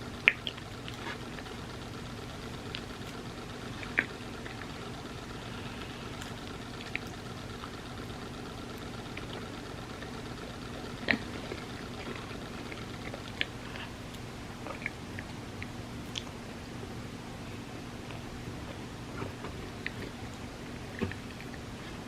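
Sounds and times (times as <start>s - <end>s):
mouth eating clicks: 0.0s - 16.4s, 18.0s - 22.0s
steady low hum: 0.0s - 22.0s.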